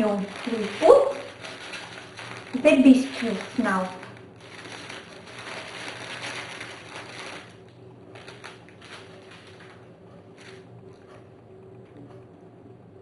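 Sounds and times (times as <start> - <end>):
packaging rustling: 0.0 - 10.6.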